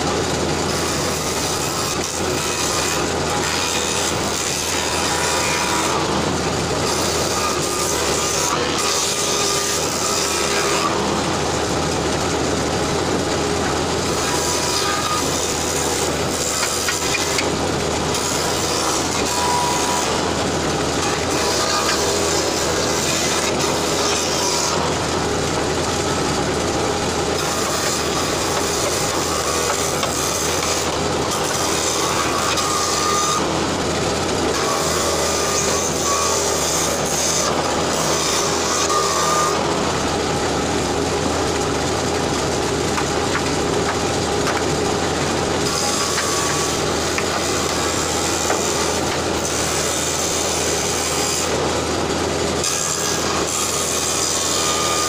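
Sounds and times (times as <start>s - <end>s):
cutter cutting wooden board: 0.0s - 55.0s
spindle cutter motor running: 0.0s - 55.0s.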